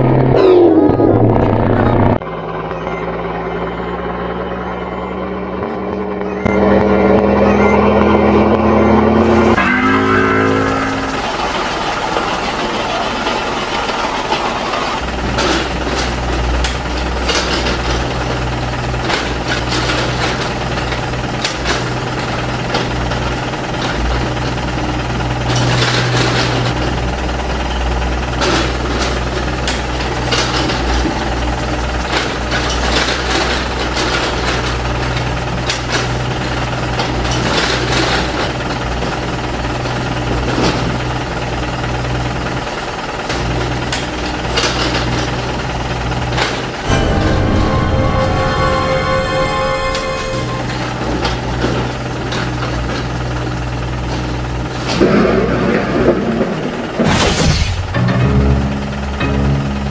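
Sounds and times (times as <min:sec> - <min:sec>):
low engine-like drone: 0:00.0 - 0:59.9.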